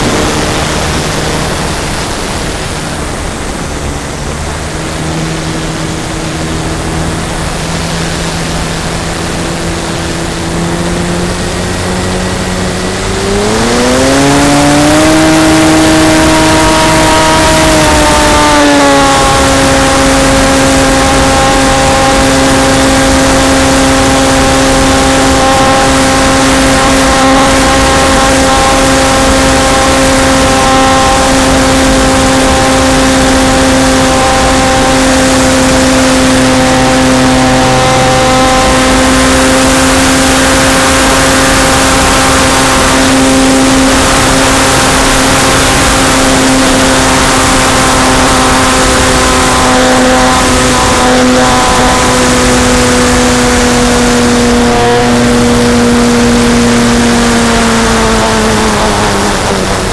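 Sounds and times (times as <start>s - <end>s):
model airplane motor droning: 0.0s - 59.9s
wind rush: 0.0s - 59.9s.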